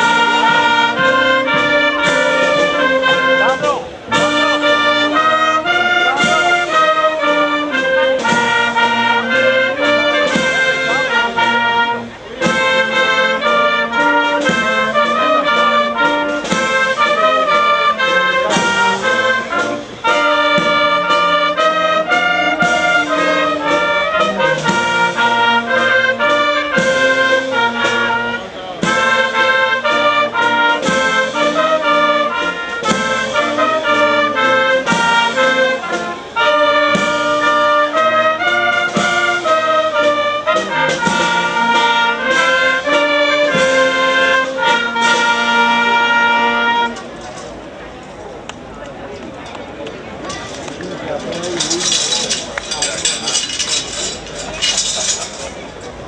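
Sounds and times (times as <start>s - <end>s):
wind band playing an anthem: 0.0s - 56.0s.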